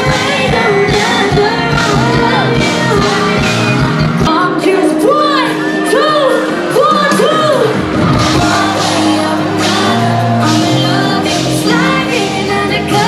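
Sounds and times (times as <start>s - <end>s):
pop music with singing: 0.0s - 13.0s.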